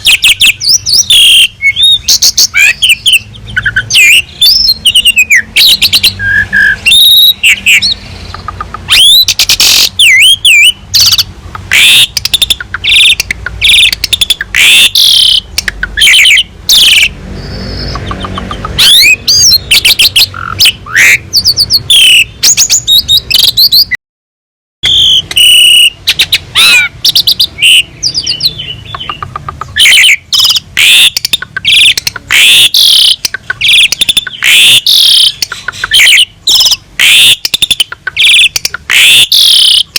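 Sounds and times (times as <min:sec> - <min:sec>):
starling singing: 0:00.0 - 0:24.0, 0:24.8 - 0:39.9.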